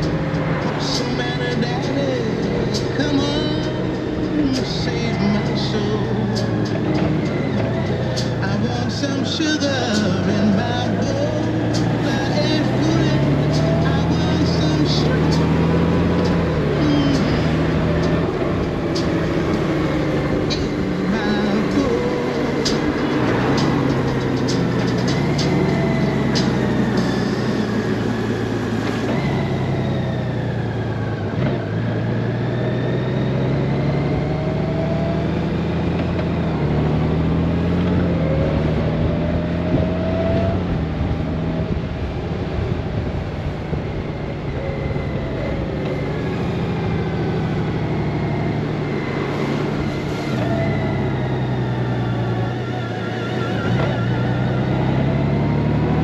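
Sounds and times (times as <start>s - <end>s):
rush of riding noise: 0.0s - 56.0s.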